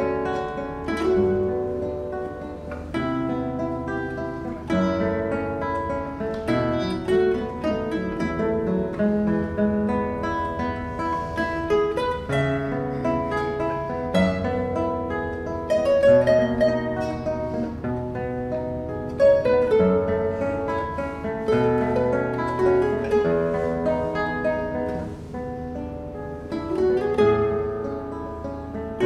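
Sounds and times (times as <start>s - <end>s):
classical guitar duet: 0.0s - 29.0s.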